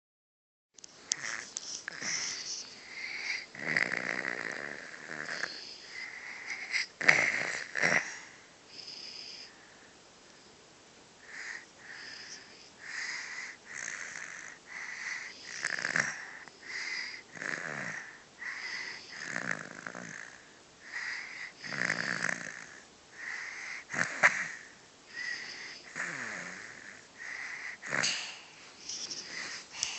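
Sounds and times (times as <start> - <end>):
wheezy snoring: 1.1 - 9.6, 11.2 - 29.9.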